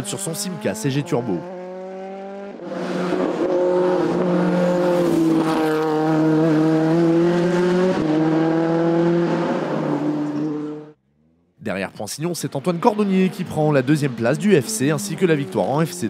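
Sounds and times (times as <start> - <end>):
race car engine at high revs: 0.0 - 11.3, 13.0 - 16.0.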